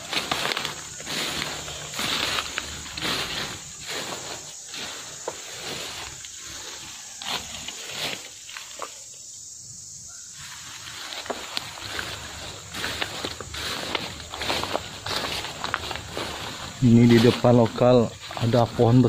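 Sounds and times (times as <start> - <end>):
footsteps through brush: 0.0 - 9.1, 10.3 - 19.0
rustling of ferns and brush: 0.0 - 9.2, 10.3 - 19.0.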